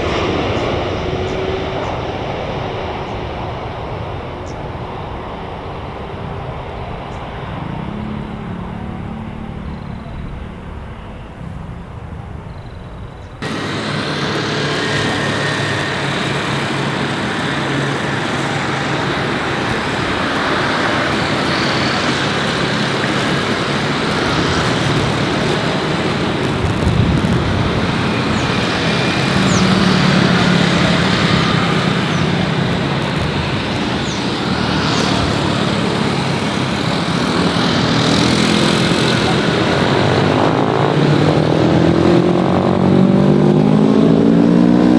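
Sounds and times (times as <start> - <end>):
engine and traffic noise: 0.0 - 44.9.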